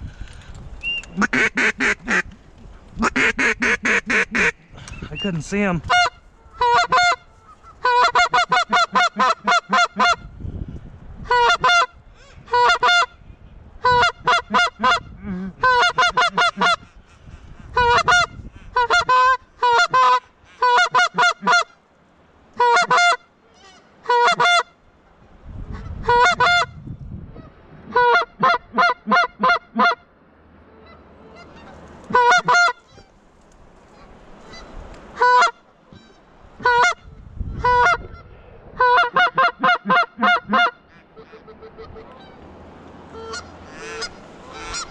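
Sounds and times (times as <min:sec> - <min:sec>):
goose-like honking: 0:01.0 - 0:02.4, 0:03.0 - 0:05.2, 0:05.8 - 0:10.3, 0:11.3 - 0:13.2, 0:13.8 - 0:21.8, 0:22.6 - 0:24.8, 0:25.7 - 0:26.8, 0:27.4 - 0:33.2, 0:33.9 - 0:42.5, 0:43.1 - 0:44.9.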